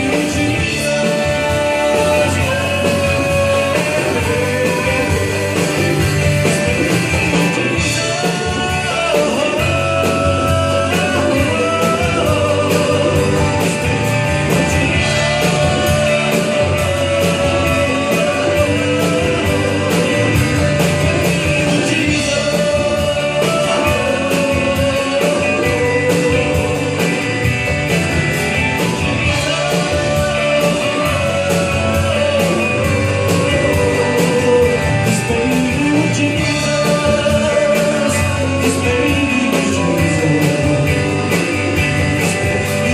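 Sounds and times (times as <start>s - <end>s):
live rock band playing: 0.0s - 42.9s
person singing: 0.0s - 42.9s.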